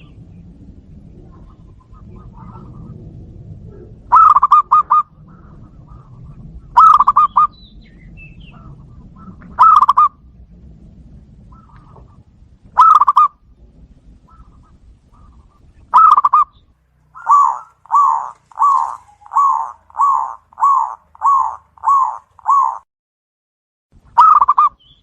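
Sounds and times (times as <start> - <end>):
dove cooing: 0.0 - 10.3, 11.3 - 22.8, 24.2 - 24.8.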